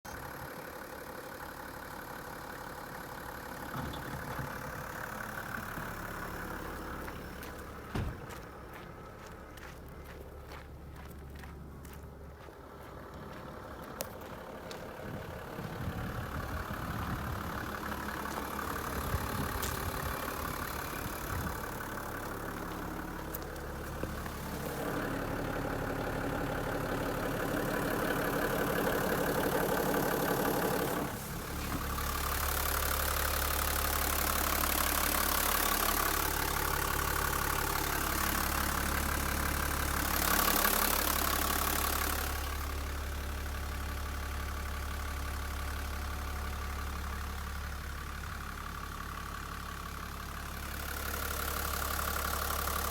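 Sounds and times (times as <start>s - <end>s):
diesel bus engine idling: 0.0s - 52.9s.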